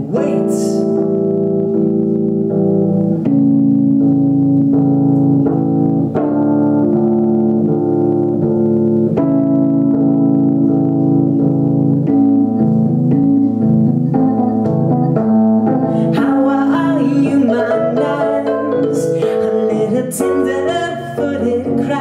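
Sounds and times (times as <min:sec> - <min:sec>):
bass guitar: 0:00.0 - 0:22.0
electric guitar: 0:00.0 - 0:22.0
organ-like keyboard chords: 0:00.0 - 0:22.0.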